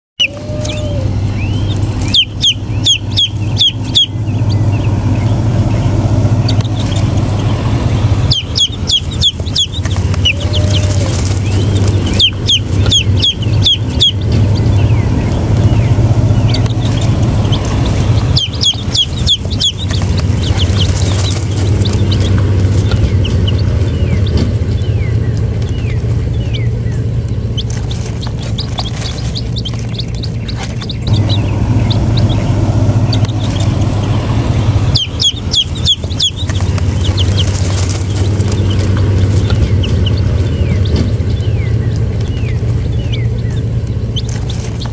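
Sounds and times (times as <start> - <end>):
baby chicks peeping: 0.2 - 44.9
low steady hum: 0.2 - 44.9.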